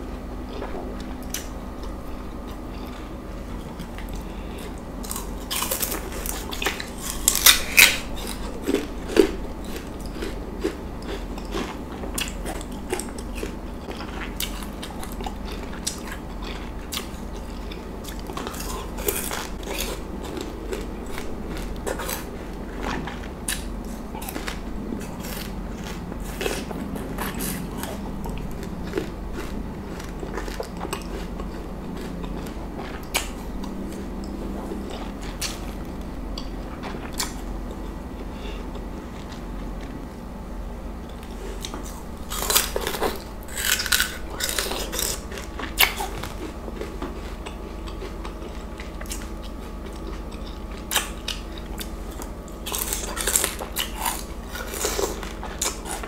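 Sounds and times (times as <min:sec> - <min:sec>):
person chewing crisp fruit: 0:00.0 - 0:56.0.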